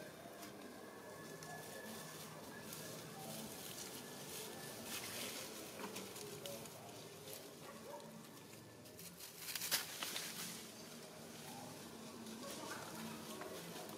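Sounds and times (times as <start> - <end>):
dry leaves rustling and crackling: 0.4 - 13.9.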